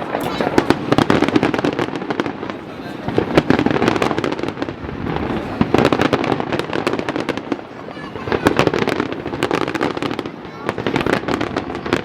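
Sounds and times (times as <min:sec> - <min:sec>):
fireworks crackling pops: 0:00.0 - 0:12.0
rumbling firework booms: 0:00.0 - 0:12.0.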